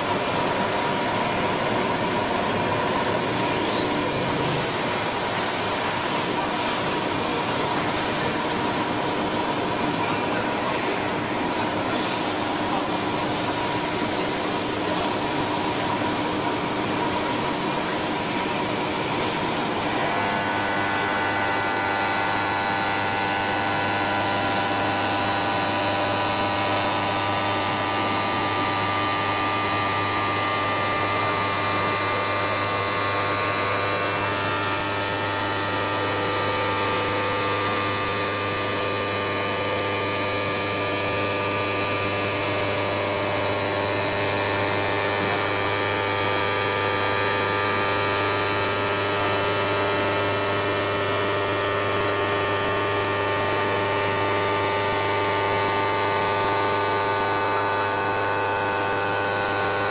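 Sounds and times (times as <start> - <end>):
machine noise: 0.0 - 59.9
router spindle whining: 0.0 - 59.9.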